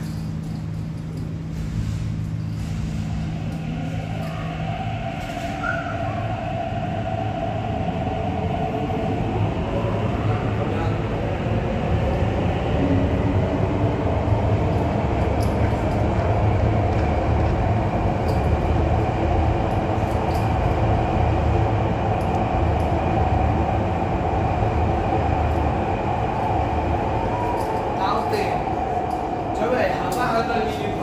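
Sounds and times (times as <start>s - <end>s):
electric train rumbling past: 1.2s - 31.0s.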